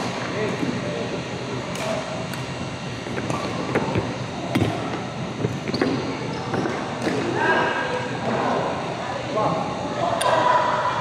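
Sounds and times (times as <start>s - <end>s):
sports hall noise: 0.0s - 11.0s.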